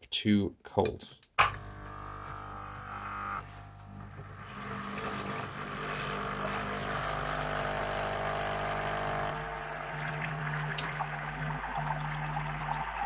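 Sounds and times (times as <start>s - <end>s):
coffee machine pump running: 1.4s - 13.0s.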